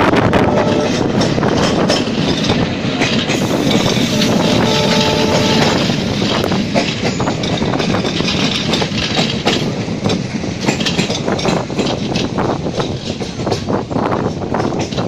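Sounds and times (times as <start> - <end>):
train wheels rattling on rail: 0.0 - 15.0.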